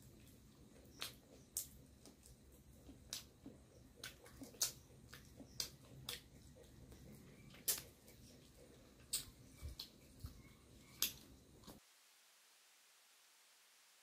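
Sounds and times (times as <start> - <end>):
wet mouth clicks chewing: 0.2 - 11.8.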